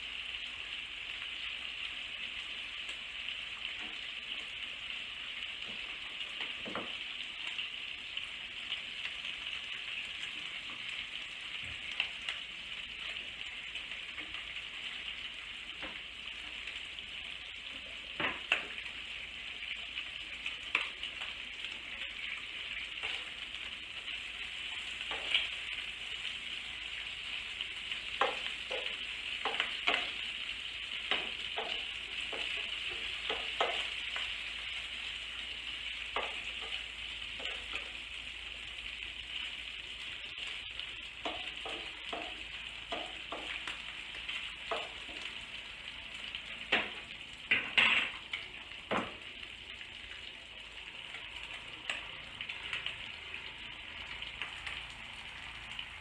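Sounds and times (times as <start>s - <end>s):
bacon sizzling in a frying pan: 0.0s - 56.0s.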